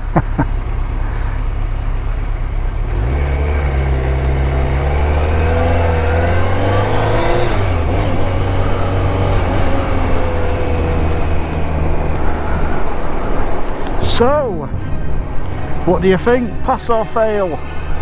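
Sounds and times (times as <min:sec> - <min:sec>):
motorcycle engine accelerating: 0:00.0 - 0:15.9.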